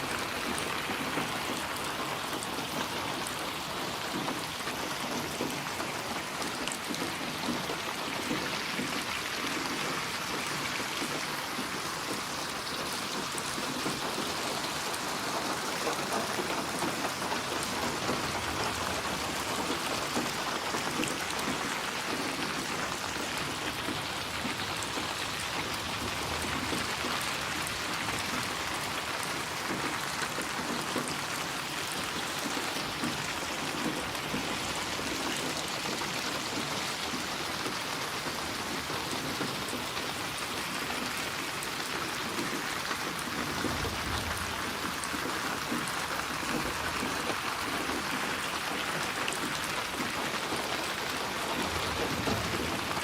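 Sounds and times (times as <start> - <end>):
raindrops pattering on a surface: 0.0 - 53.0
steady rain falling: 0.0 - 53.0.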